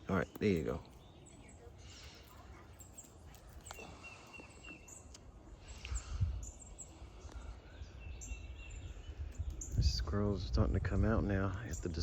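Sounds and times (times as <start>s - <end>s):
birds chirping: 0.0s - 12.0s
low steady background noise: 0.0s - 12.0s.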